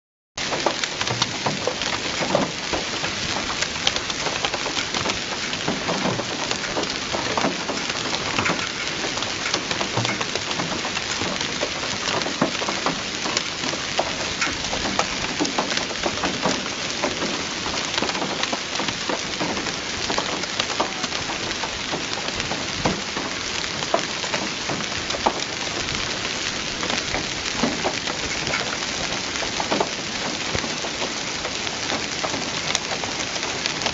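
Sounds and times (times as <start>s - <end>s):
rain falling steadily: 0.4s - 33.9s.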